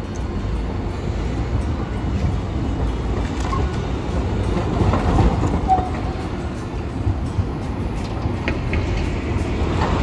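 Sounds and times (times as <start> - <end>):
cars passing: 0.0 - 10.0
tram rolling on track: 0.0 - 10.0.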